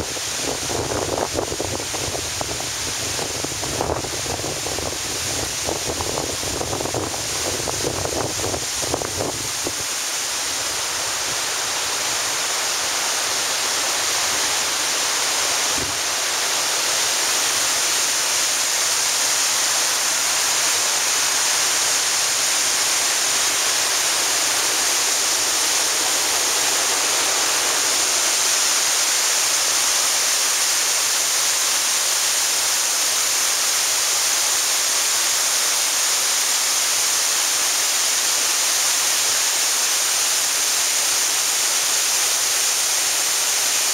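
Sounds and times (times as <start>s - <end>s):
waterfall rushing over rocks: 0.0s - 43.9s.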